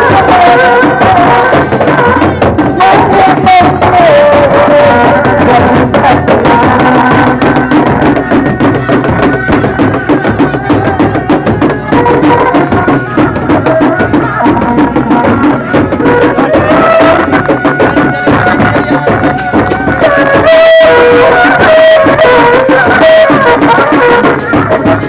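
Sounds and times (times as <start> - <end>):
fast hand drum rhythm: 0.0 - 25.0
held melody line: 0.0 - 25.0.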